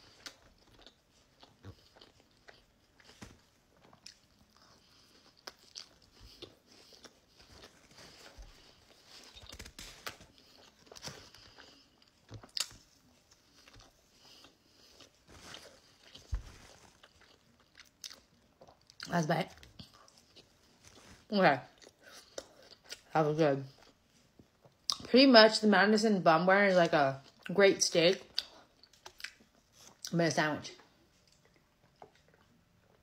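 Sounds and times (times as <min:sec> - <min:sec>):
person chewing sandwich: 0:00.0 - 0:23.1, 0:23.7 - 0:25.0, 0:28.3 - 0:30.1, 0:30.8 - 0:33.0.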